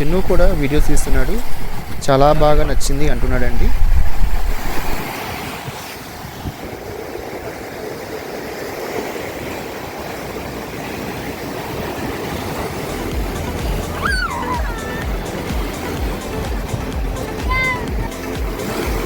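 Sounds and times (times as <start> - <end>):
ocean surf washing onto beach: 0.0 - 19.0
wind on microphone: 0.0 - 19.0.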